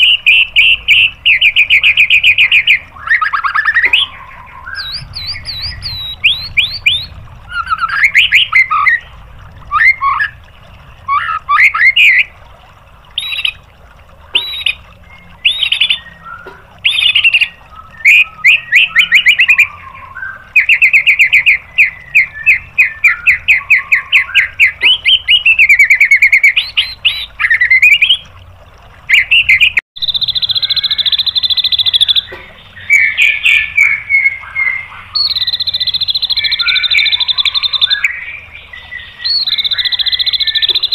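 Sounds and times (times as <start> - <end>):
bird singing whistled phrases: 0.0 - 9.1, 11.1 - 12.3, 13.2 - 13.6, 14.4 - 28.2, 29.1 - 40.9.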